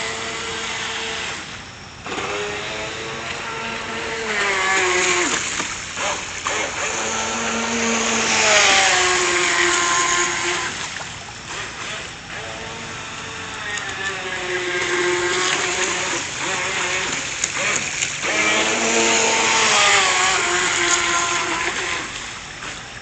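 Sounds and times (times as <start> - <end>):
electric motor whining: 0.0 - 22.8.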